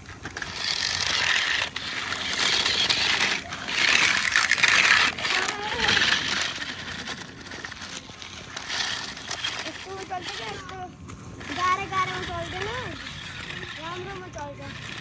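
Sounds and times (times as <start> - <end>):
toy car tyres crunching gravel: 0.0 - 15.0.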